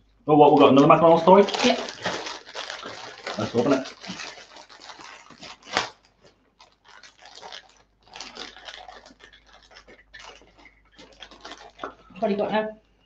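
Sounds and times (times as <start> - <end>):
plastic wrapper crinkling: 0.5 - 12.5.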